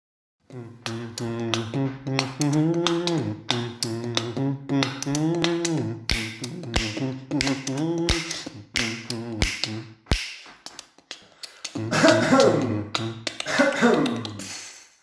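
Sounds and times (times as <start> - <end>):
wordless humming vocal melody: 0.5 - 9.9, 11.1 - 14.6
finger snaps and clicks: 1.6 - 14.7.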